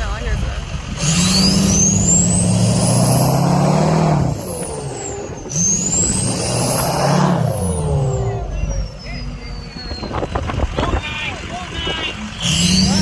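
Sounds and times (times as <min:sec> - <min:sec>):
diesel truck engine revving: 0:00.0 - 0:13.0
turbocharger whistle: 0:01.0 - 0:11.1, 0:11.9 - 0:13.0.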